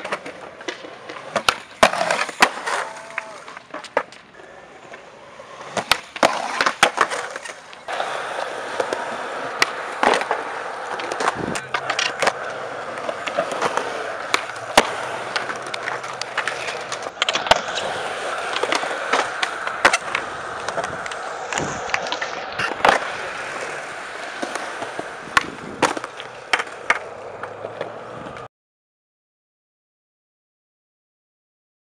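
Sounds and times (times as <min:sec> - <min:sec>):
skateboard clacks and smacks: 0:00.0 - 0:28.5
skateboard wheels rolling on concrete: 0:00.0 - 0:28.5.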